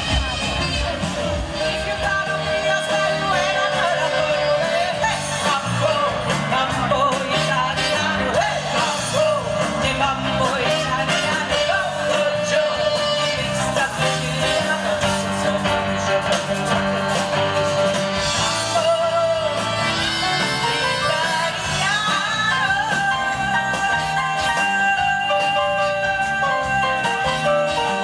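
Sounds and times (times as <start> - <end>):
person singing: 0.0 - 28.0
rock guitar: 0.0 - 28.0.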